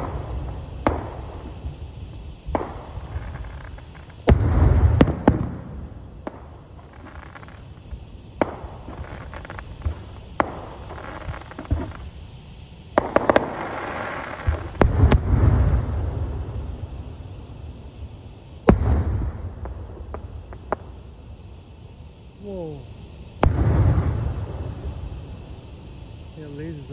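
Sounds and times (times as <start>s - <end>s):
firework bangs: 0.0s - 26.9s
rapid firework crackling: 0.0s - 26.9s.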